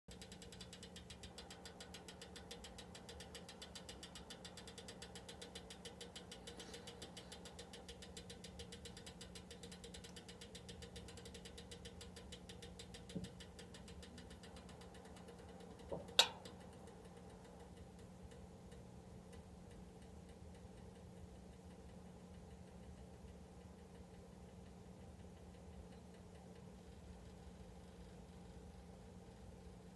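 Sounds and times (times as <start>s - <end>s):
electric heater humming: 0.1s - 29.9s
rapid ticking: 0.1s - 29.9s.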